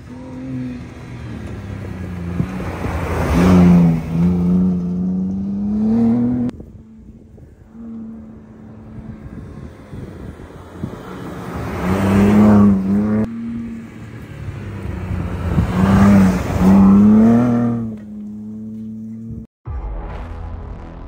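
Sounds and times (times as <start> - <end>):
car engine accelerating: 0.0 - 19.5.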